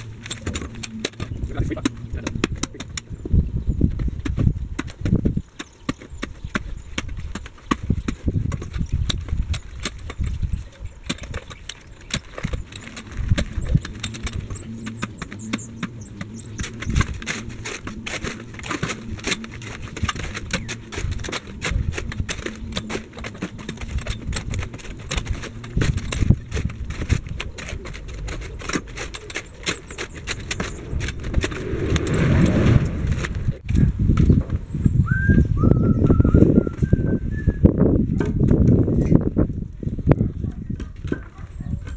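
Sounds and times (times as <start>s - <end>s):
post hole digger knocking and scraping: 0.0s - 3.1s, 3.9s - 34.6s.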